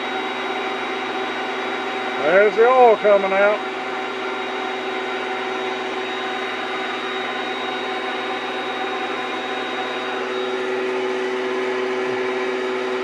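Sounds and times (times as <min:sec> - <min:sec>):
shop vac running: 0:00.0 - 0:13.0.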